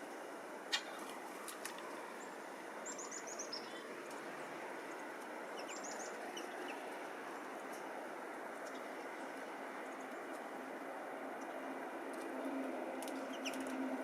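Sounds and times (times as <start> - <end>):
songbirds chirping: 0.0 - 13.9.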